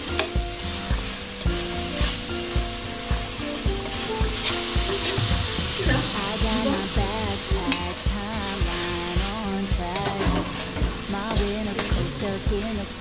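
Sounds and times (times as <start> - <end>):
background music with steady beat: 0.0 - 13.0
chicken sizzling in a wok: 0.0 - 13.0
spatula stirring in wok: 0.0 - 13.0.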